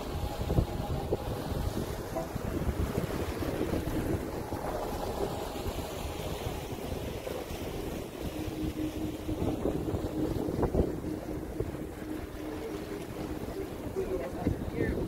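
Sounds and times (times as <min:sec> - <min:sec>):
low boat rumble: 0:00.0 - 0:15.0
water rushing along hull: 0:00.0 - 0:15.0
wind buffeting microphone: 0:00.0 - 0:15.0.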